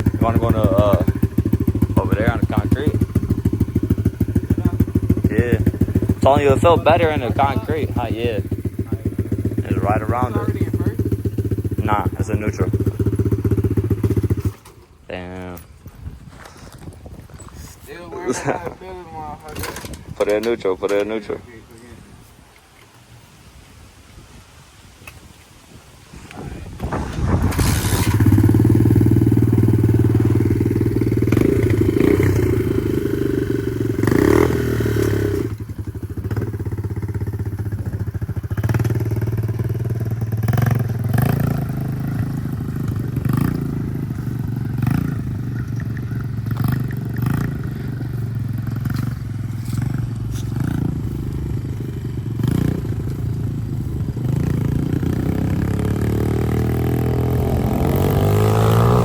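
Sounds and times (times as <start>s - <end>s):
dirt bike engine running: 0.0s - 17.5s, 26.7s - 59.0s.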